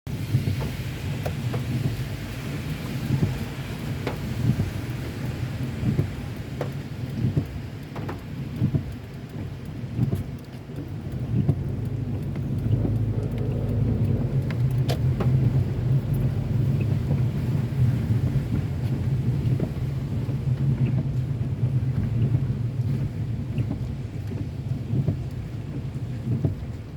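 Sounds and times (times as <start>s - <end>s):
car road rumble: 0.1s - 26.9s
raindrops tapping: 0.1s - 26.9s.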